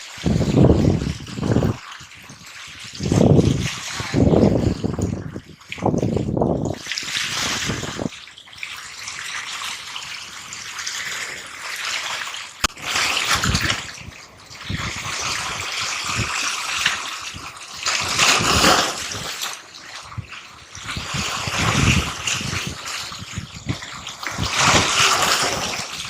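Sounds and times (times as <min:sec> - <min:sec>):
seawater washing on shore: 0:00.0 - 0:26.0.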